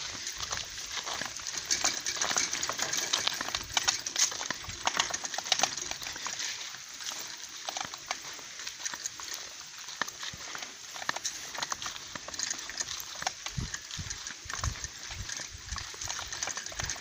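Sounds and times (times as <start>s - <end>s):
bicycle pushed on grass: 0.0s - 17.0s
footsteps: 0.0s - 17.0s.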